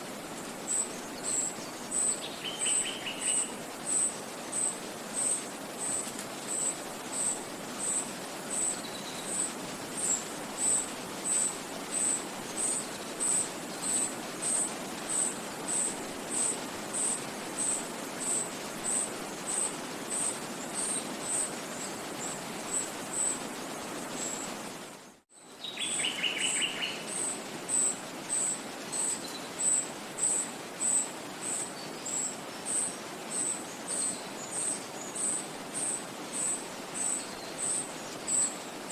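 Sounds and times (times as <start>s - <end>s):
wind: 0.0s - 38.9s.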